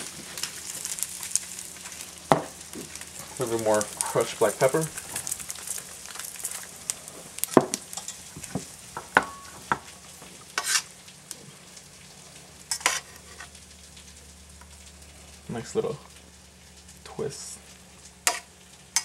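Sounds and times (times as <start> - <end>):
pasta sizzling in a pan: 0.0 - 19.0.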